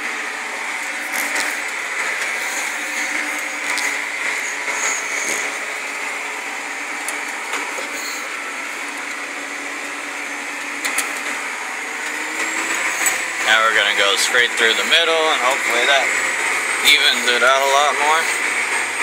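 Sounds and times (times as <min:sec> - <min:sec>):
tractor engine drone: 0:00.0 - 0:19.0.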